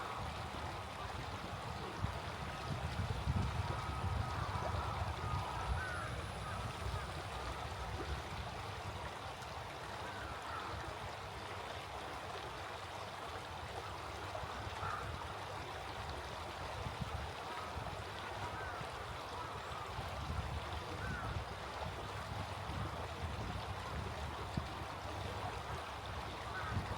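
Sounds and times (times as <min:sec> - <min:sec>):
small stream flowing: 0:00.0 - 0:26.9.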